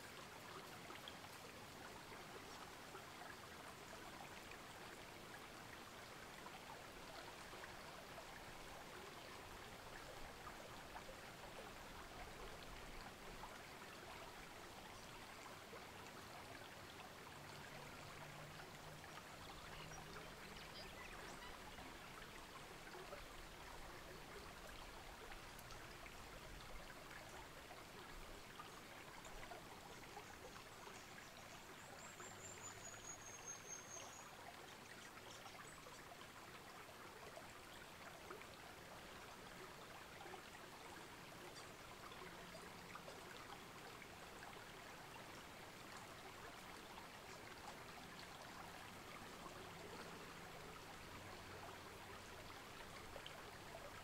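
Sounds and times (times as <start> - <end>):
creek trickling: 0.0 - 54.0.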